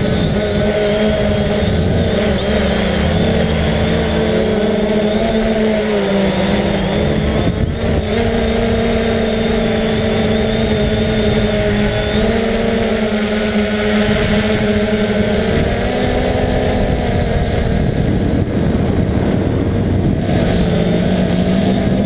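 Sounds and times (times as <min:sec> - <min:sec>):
drone propellers whining: 0:00.0 - 0:22.0
wind buffeting microphone: 0:00.0 - 0:22.0.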